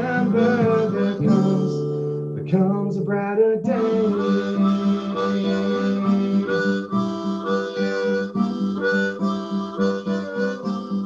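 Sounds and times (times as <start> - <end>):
harmonica melody: 0.0 - 2.6, 3.6 - 11.0
strummed acoustic guitar: 0.0 - 11.0.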